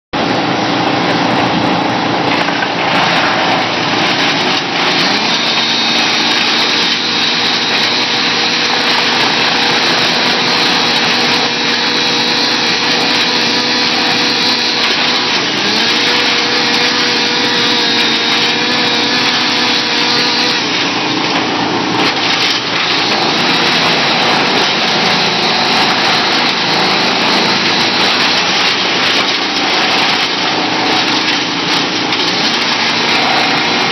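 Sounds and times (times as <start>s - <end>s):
wood chipper chipping branches: 0.2s - 33.9s.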